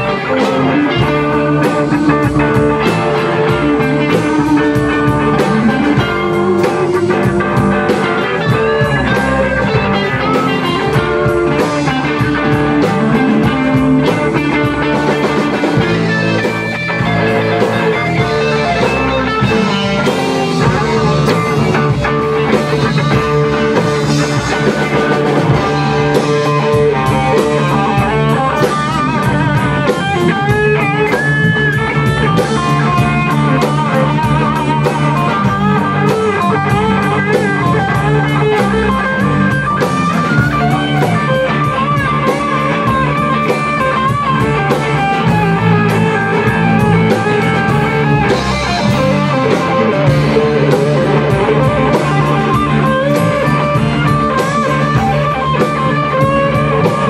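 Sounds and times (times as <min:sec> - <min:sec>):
bass guitar: 0:00.0 - 0:57.0
drum kit: 0:00.0 - 0:57.0
electric guitars: 0:00.0 - 0:57.0
lead guitar with bent notes: 0:00.0 - 0:57.0.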